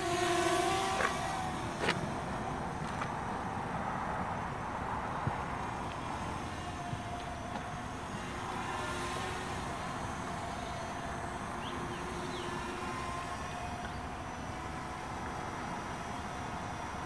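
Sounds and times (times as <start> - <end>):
quadcopter propellers humming: 0.0 - 17.0.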